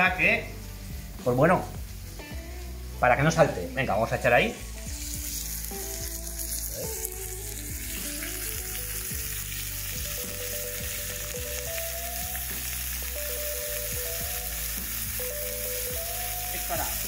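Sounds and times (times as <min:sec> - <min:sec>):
seafood sizzling in a frying pan: 0:00.0 - 0:17.0.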